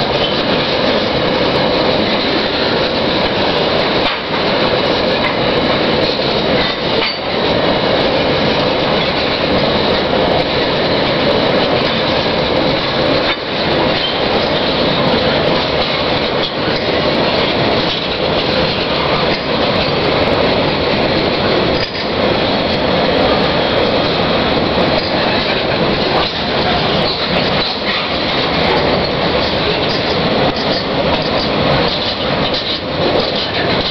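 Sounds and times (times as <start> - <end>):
rumble of train wheels on rail: 0.0 - 33.9
wheels clicking over rail joints: 0.0 - 33.9.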